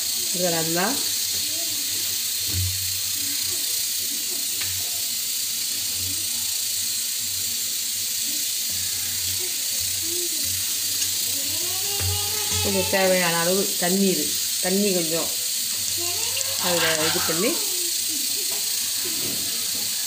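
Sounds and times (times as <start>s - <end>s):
faint voices: 0.0s - 20.0s
steady hiss: 0.0s - 20.0s.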